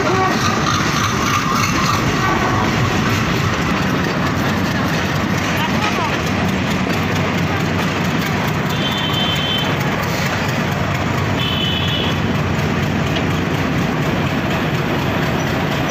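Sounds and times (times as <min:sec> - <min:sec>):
locomotive engine running: 0:00.0 - 0:15.9.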